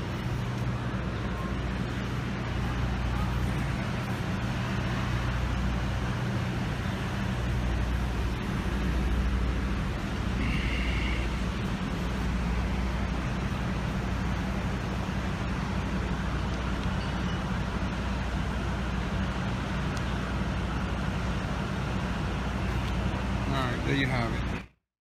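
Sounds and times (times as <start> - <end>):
truck engine idling: 0.0 - 24.7
street traffic: 0.0 - 24.8.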